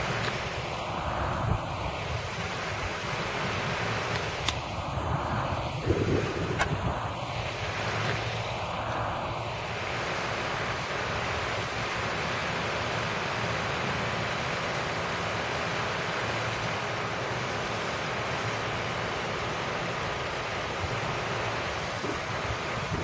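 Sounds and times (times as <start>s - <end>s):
rush of churning water: 0.0s - 23.0s.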